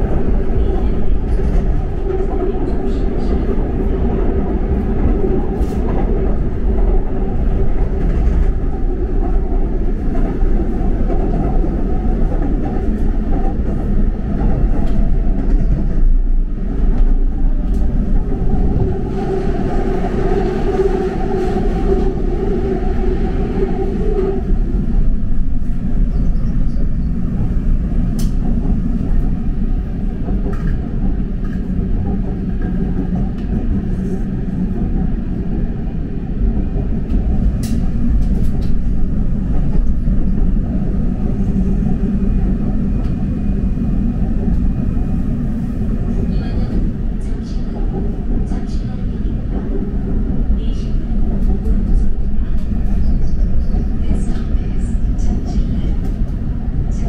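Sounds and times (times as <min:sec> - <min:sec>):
subway wheels rumbling on rail: 0:00.0 - 0:57.0.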